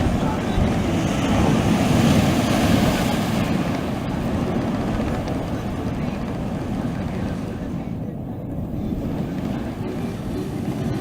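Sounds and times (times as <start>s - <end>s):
sea surf washing onto shore: 0.0s - 11.0s.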